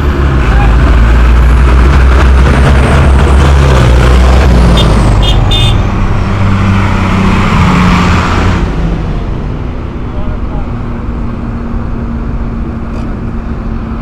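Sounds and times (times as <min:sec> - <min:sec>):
diesel tractor engines droning: 0:00.0 - 0:14.0.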